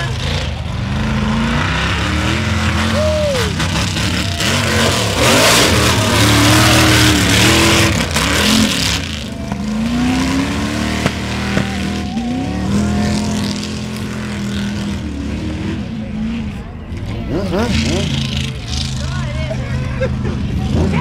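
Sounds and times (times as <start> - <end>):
tires spinning in mud: 0.0 - 21.0
truck engine revving: 0.0 - 21.0.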